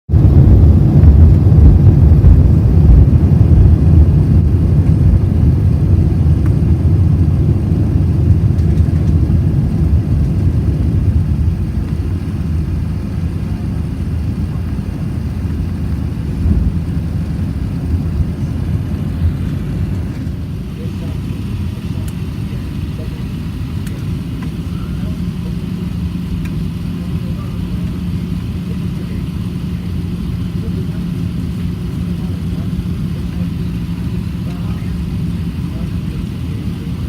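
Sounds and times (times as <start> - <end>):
deep jet engine rumble: 0.1 - 37.0.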